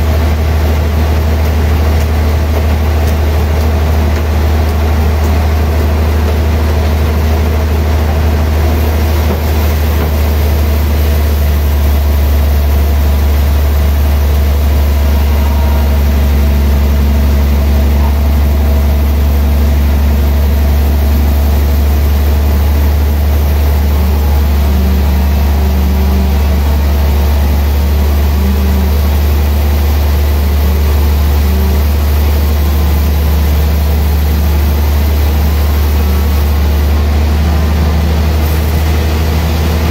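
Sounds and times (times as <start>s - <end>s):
sawmill running with low hum: 0.0s - 39.9s.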